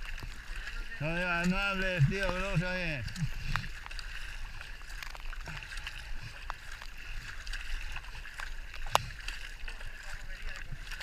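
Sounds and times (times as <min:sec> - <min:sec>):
kayak paddles dipping in water: 0:00.0 - 0:11.0
small splashes and drips: 0:00.0 - 0:11.0.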